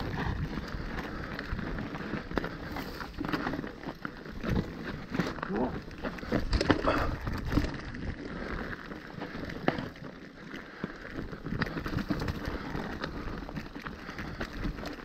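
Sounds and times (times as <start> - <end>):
bike rattling and knocking: 0.0 - 15.0
tyres crunching over stones: 0.0 - 15.0.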